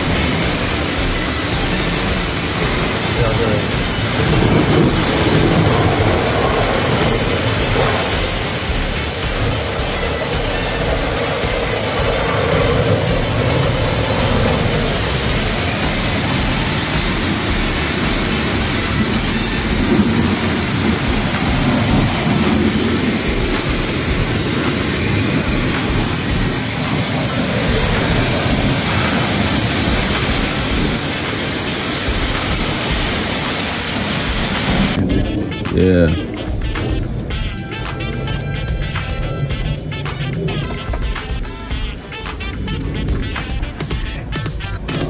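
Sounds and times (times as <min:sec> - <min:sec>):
steam cleaner jet hissing: 0:00.0 - 0:45.0.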